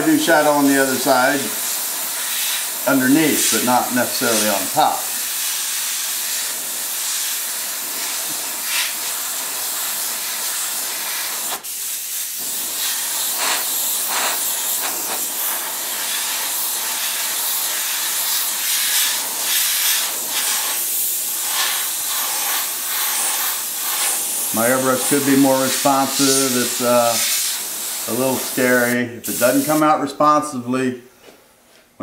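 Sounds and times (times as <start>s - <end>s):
airbrush hissing: 0.0s - 29.9s.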